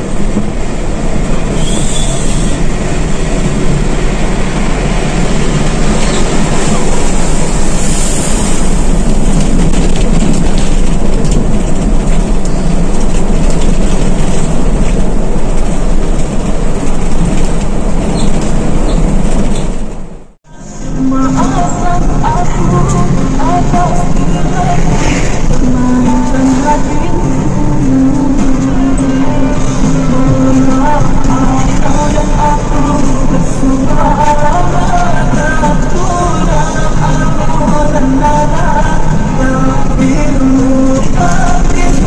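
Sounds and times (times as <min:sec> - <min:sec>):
road and tyre noise: 0:00.0 - 0:42.0.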